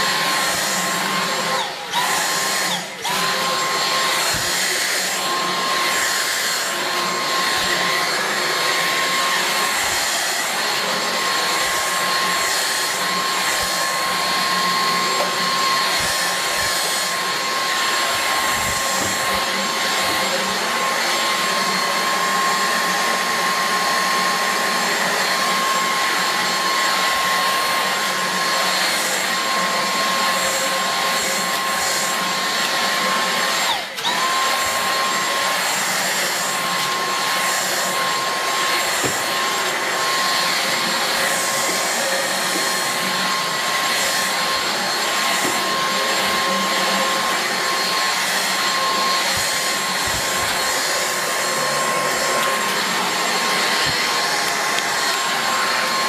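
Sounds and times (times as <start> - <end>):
cordless vacuum whining: 0.0 - 56.0.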